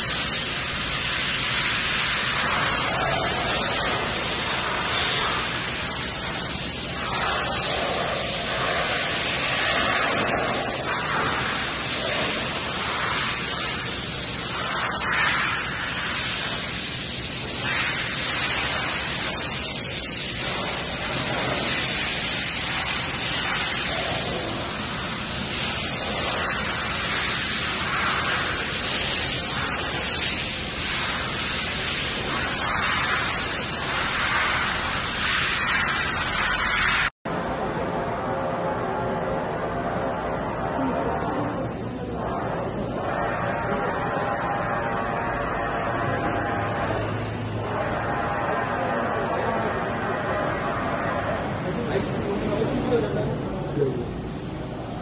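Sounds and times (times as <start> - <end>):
machining centre hissing: 0.0 - 55.0.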